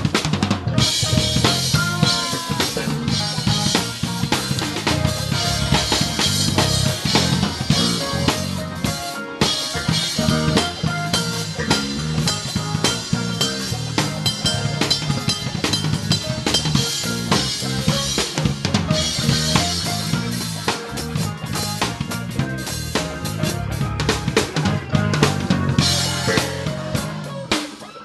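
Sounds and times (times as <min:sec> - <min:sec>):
drum kit: 0:00.0 - 0:28.0
live band playing: 0:00.0 - 0:28.0.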